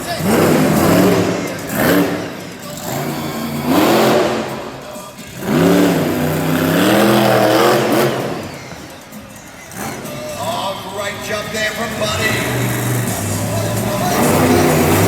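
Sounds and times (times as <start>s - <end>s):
truck engine revving hard: 0.0s - 8.9s, 9.6s - 10.2s, 11.8s - 15.0s.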